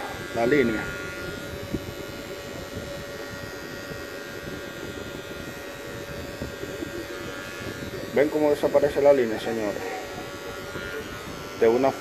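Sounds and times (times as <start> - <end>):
hair clipper buzzing: 0.0 - 12.0.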